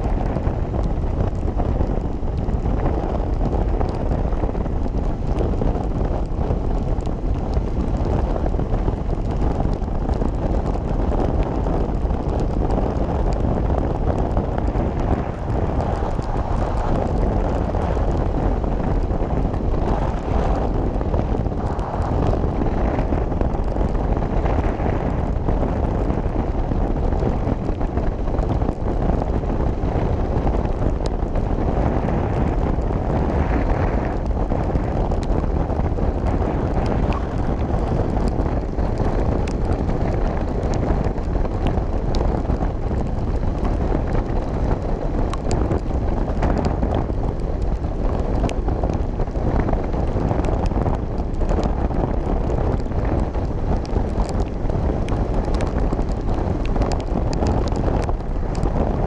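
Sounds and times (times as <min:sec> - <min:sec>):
motorcycle running: 0:00.0 - 0:59.0
wind rushing on microphone: 0:00.0 - 0:59.0.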